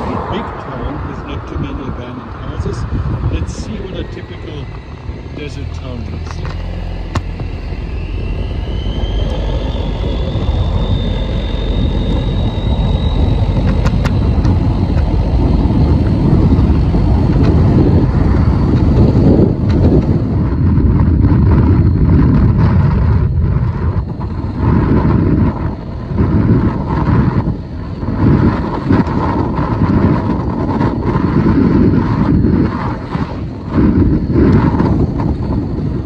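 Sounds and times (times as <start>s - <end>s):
faint rising whine: 0.0s - 36.0s
wind and scooter engine rush: 0.0s - 36.0s.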